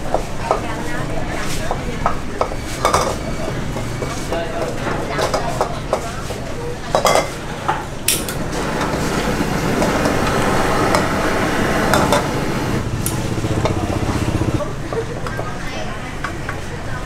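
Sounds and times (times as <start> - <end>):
gas burners rushing: 2.6 - 17.0.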